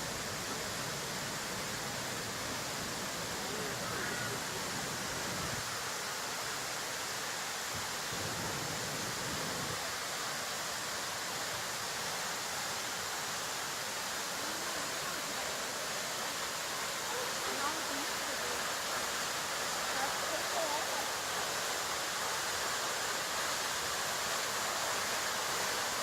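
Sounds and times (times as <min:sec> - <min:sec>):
waterfall roar: 0:00.0 - 0:26.0.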